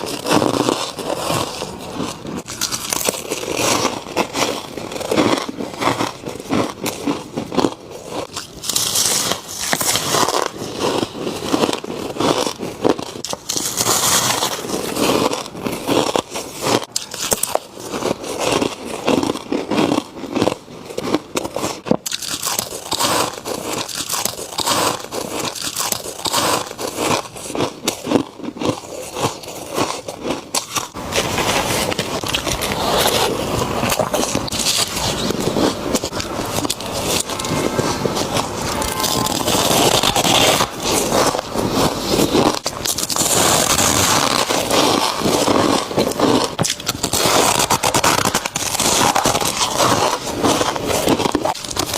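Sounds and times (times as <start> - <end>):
ice crunching between teeth: 0.0 - 51.9.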